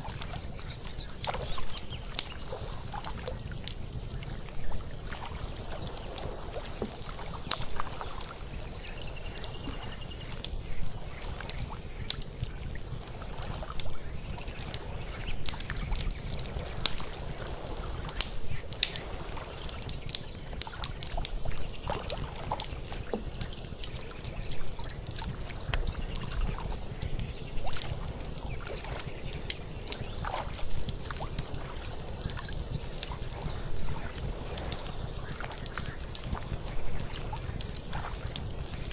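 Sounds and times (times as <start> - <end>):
fire crackling and popping: 0.0 - 38.9
water lapping: 0.0 - 38.9.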